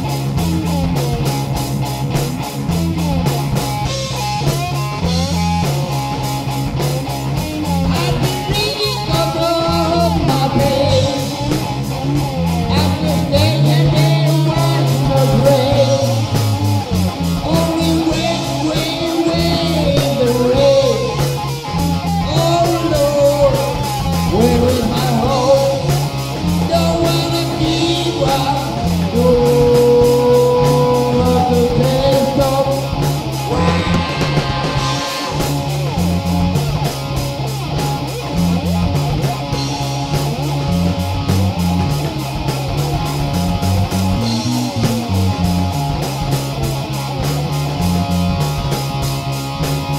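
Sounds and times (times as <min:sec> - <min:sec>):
hard rock cigar box guitar: 0:00.0 - 0:49.9.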